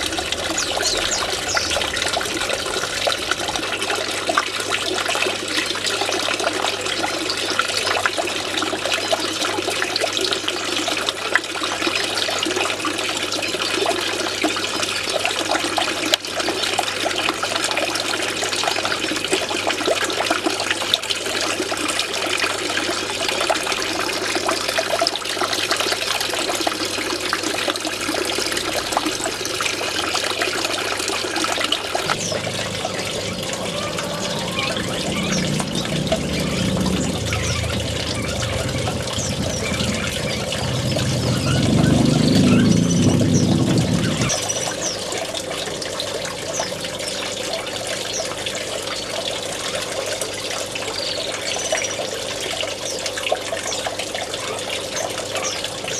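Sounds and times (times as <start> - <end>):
water splashing into pond: 0.0 - 55.9.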